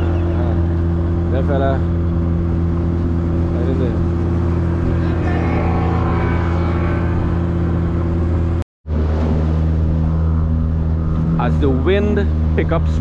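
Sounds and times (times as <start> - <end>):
boat engine droning: 0.0 - 13.0
rush of wind and water: 0.0 - 13.0.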